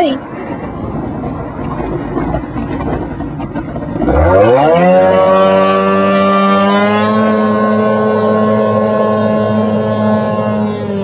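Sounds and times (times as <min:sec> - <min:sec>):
watercraft engine idling and revving: 0:00.0 - 0:11.0.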